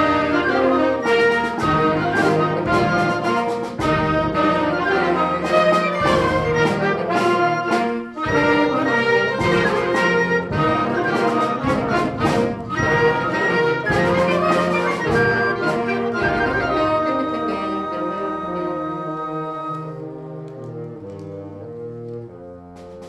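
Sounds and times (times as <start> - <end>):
concert band playing: 0.0 - 23.0
percussion strokes: 0.0 - 23.0.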